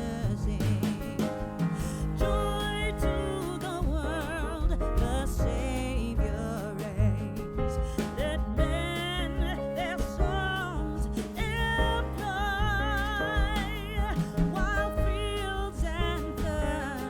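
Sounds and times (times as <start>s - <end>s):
instrumental backing: 0.0s - 17.0s.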